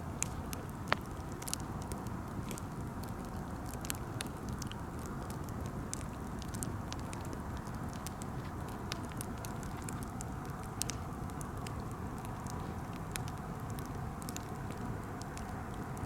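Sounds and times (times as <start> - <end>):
campfire hissing: 0.0 - 16.0
fire crackles and pops: 0.0 - 16.0.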